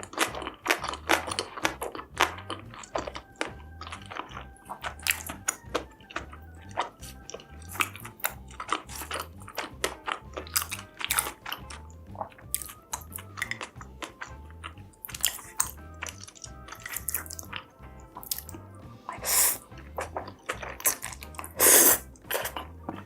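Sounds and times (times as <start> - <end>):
background music with low beat: 0.0 - 23.0
food crunching while chewed: 0.0 - 23.0.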